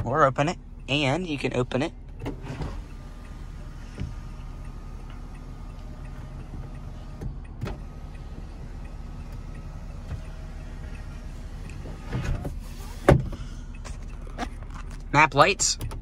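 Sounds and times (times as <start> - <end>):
low cabin hum: 0.0 - 16.0.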